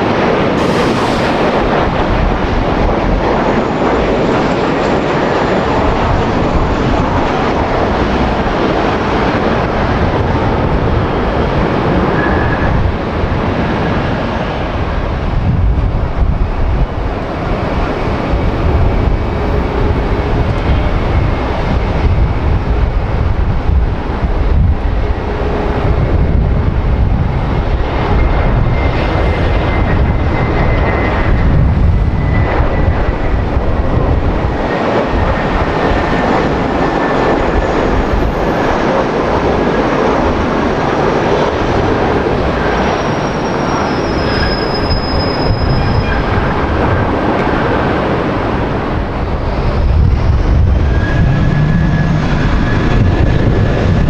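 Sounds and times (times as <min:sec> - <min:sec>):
jet engines running: 0:00.0 - 0:54.0
high whine: 0:00.4 - 0:54.0.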